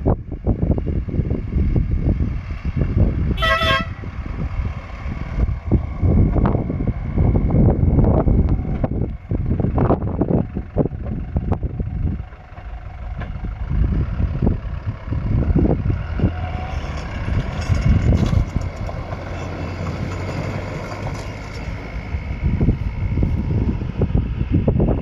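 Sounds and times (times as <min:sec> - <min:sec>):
heavy vehicle engine running: 0:00.0 - 0:25.0
wind buffeting microphone: 0:00.0 - 0:25.0.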